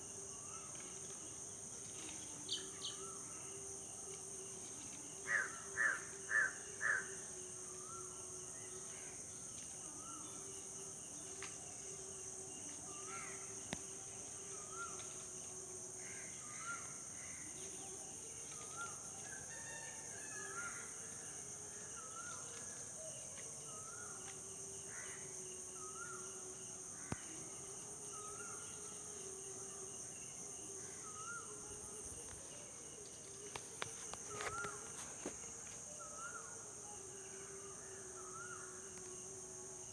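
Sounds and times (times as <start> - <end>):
high drone of insects: 0.0 - 39.9.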